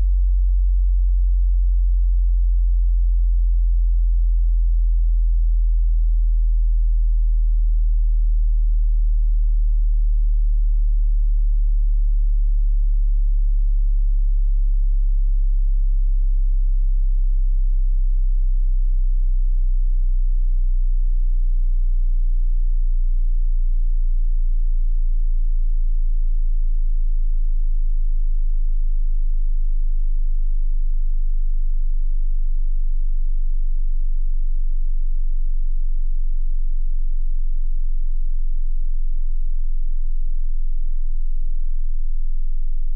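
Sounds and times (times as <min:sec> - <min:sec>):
deep bass sine tone sweeping down: 0:00.0 - 0:42.9.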